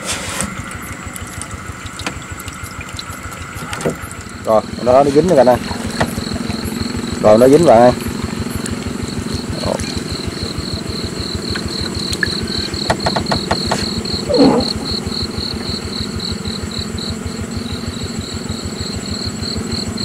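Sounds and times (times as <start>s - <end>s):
small engine idling: 0.0s - 20.0s
insects chirping trill: 0.6s - 20.0s.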